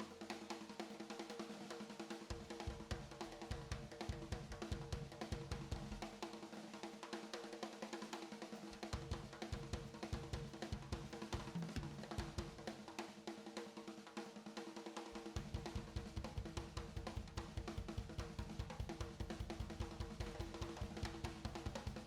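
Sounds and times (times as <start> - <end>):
rock music with drums: 0.0 - 22.0.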